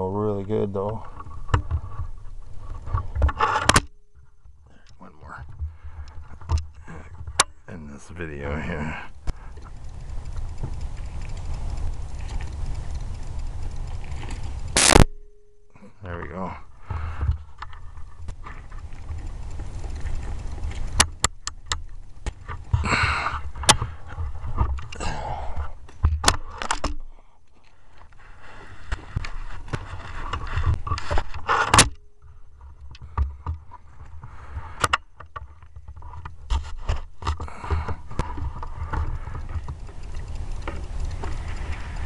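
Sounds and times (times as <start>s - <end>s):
constant low rumble: 0.0s - 42.0s
sharp clicks: 2.7s - 42.0s.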